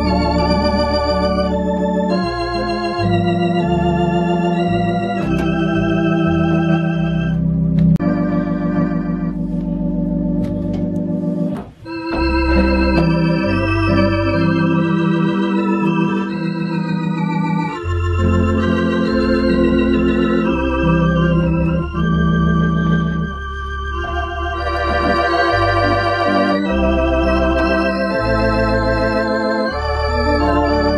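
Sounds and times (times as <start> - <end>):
electronic organ chords: 0.0 - 30.9.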